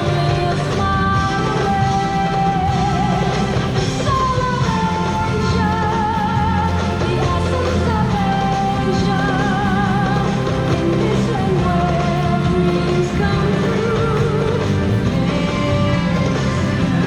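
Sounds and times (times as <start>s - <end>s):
full bass accompaniment: 0.0s - 17.0s.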